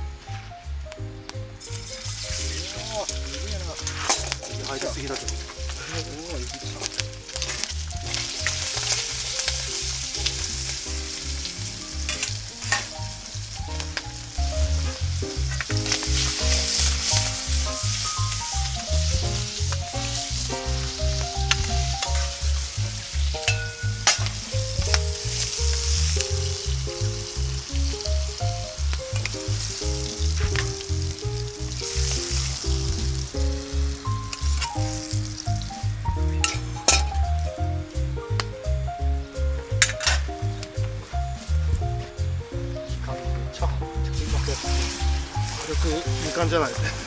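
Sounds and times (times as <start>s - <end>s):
background music with a beat: 0.0s - 47.0s
food sizzling in a wok: 0.4s - 47.0s.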